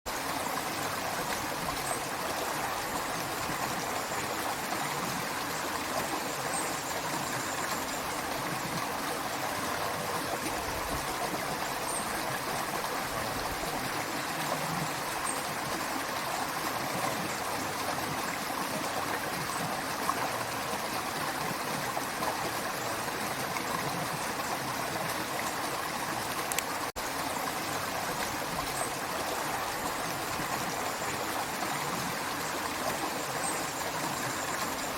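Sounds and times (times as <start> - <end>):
creek water flowing: 0.1 - 34.9.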